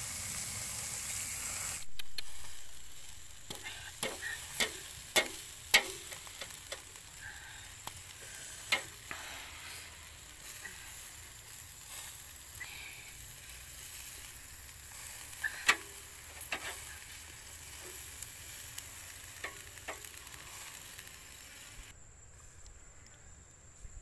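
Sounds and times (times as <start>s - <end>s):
chicken sizzling on a grill: 0.0s - 22.5s
fat popping and crackling: 1.7s - 21.9s.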